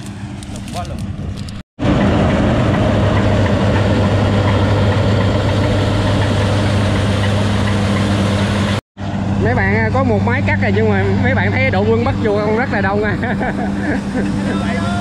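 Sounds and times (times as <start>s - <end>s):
combine harvester engine running: 0.0s - 15.0s.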